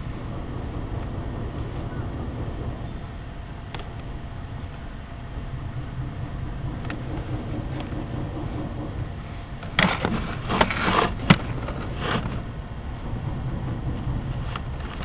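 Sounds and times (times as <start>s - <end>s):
loud bangs: 0.0s - 15.0s
low rumble: 0.0s - 15.0s
scraping clatter: 0.0s - 15.0s.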